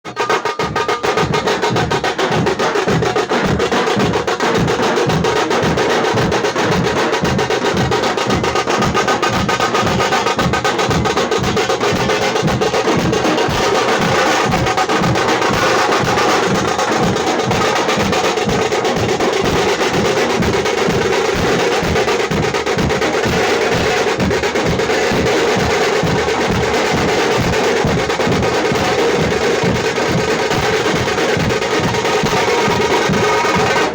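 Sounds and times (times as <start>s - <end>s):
frame drum beaten with sticks: 0.0s - 33.9s.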